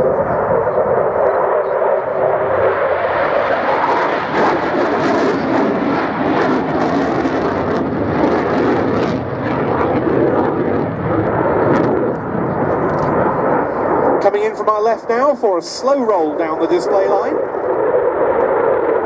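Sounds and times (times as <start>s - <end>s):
fighter jet engine roar: 0.0s - 19.0s.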